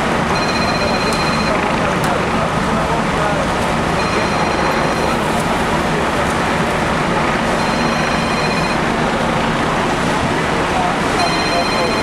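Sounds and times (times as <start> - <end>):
diesel engines idling: 1.8 - 12.0.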